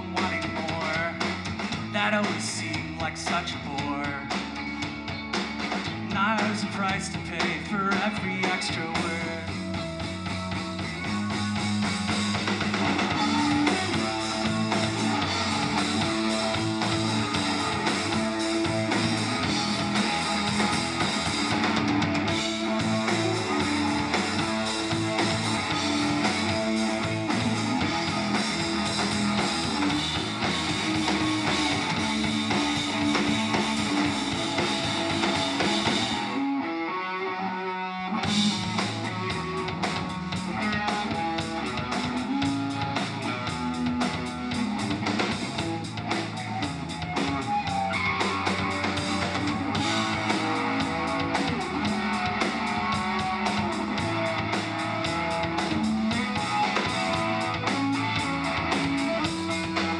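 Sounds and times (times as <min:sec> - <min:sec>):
drum kit: 0:00.0 - 0:36.5, 0:38.1 - 0:59.9
bass guitar: 0:00.0 - 0:59.9
electric guitars: 0:00.0 - 0:59.9.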